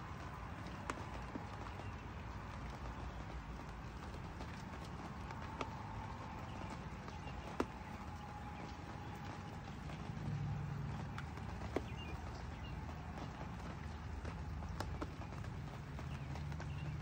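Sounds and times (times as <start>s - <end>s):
light rain on wooden deck: 0.0s - 17.0s.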